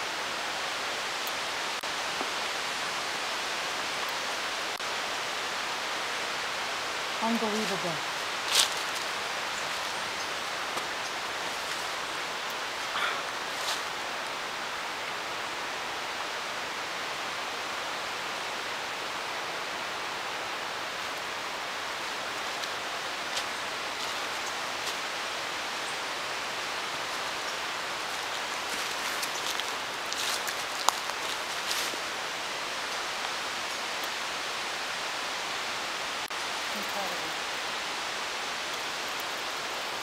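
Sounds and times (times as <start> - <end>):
rushing water hiss: 0.0 - 40.0.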